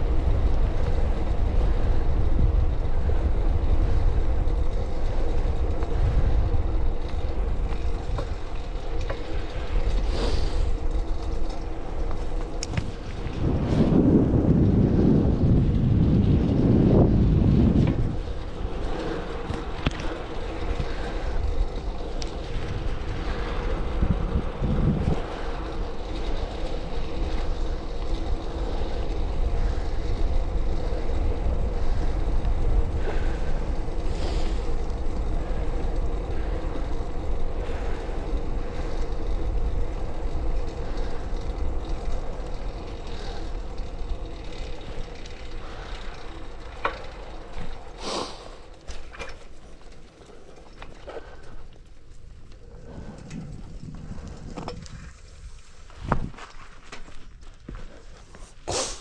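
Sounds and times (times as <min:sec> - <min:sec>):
wind on microphone: 0:00.0 - 0:47.8, 0:52.2 - 0:56.5
bike tyres rumbling on pavement: 0:00.0 - 0:59.0.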